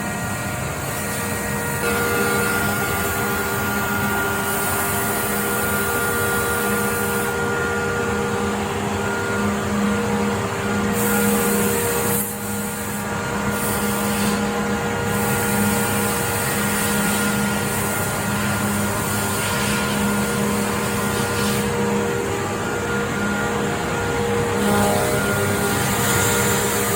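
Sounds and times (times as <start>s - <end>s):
woodworking machine drone: 0.0s - 26.9s.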